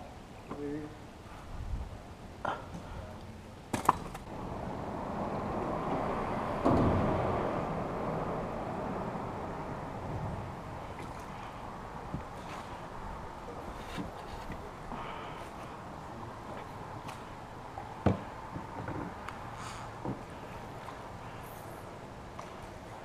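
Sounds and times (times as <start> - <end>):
vehicle tyre noise on bridge: 1.8 - 23.0.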